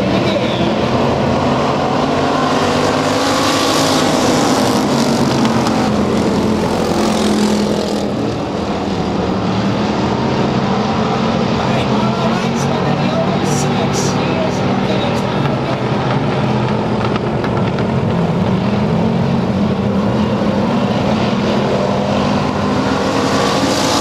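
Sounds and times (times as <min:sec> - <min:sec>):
racing car engines droning: 0:00.0 - 0:24.0.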